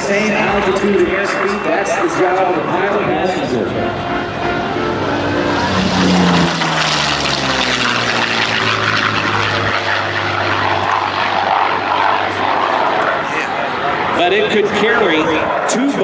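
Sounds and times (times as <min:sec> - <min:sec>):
propeller plane engine fly-by: 0:00.0 - 0:16.0.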